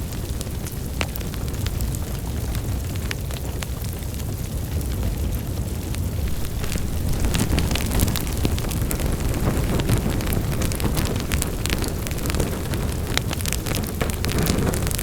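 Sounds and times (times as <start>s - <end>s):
fire crackling and popping: 0.0s - 15.0s
fireplace flames roaring: 0.0s - 15.0s.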